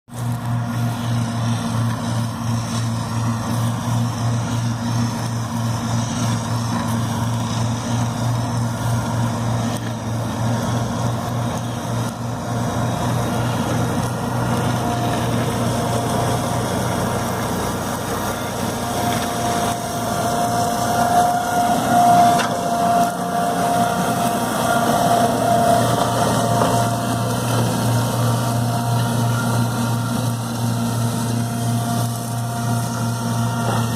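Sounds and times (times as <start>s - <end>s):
engine humming: 0.1s - 33.9s
higher whine: 0.1s - 33.9s.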